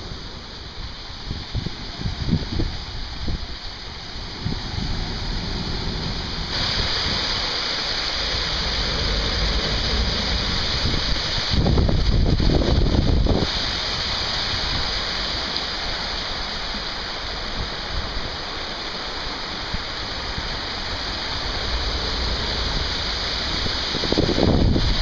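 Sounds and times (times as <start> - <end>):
river rushing over rocks: 0.0 - 25.0
wind buffeting microphone: 0.0 - 25.0.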